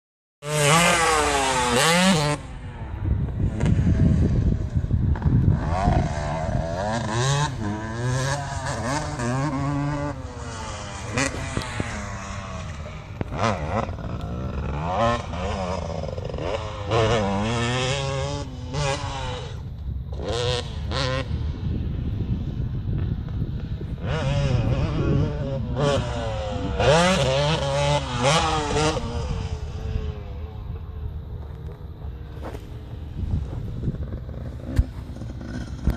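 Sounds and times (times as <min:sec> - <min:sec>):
dirt bike engines revving: 0:00.4 - 0:35.9.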